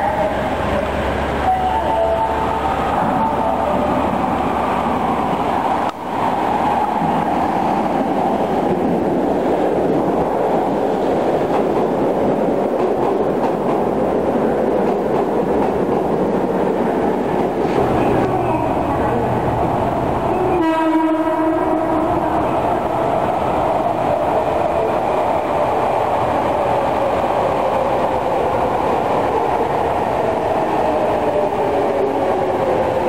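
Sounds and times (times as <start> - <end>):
subway train wheels on rail: 0.0 - 33.0.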